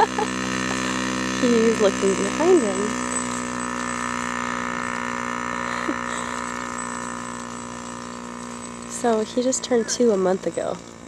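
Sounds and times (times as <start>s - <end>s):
small two-stroke engine running: 0.0s - 11.0s.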